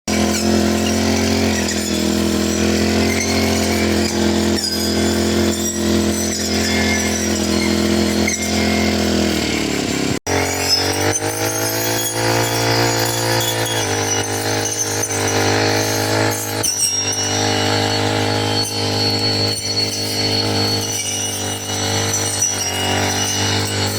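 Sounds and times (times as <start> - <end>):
brush cutter engine running: 0.0 - 23.9.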